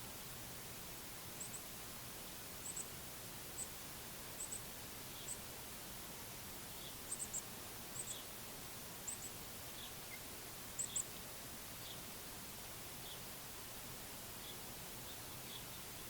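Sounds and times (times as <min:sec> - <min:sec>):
steady outdoor hiss: 0:00.0 - 0:16.0
small birds chipping: 0:01.3 - 0:01.9, 0:02.6 - 0:13.4, 0:14.1 - 0:16.0.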